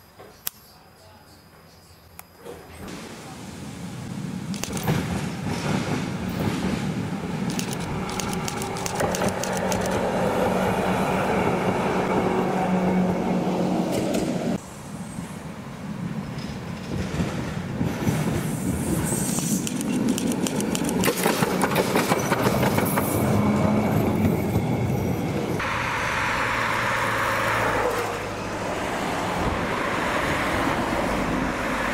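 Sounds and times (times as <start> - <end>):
tram wheel and rail noise: 0.0 - 31.9.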